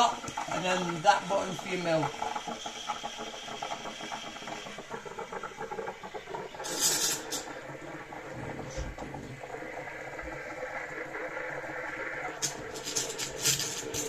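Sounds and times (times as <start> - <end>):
steam wand frothing milk: 0.0 - 14.0.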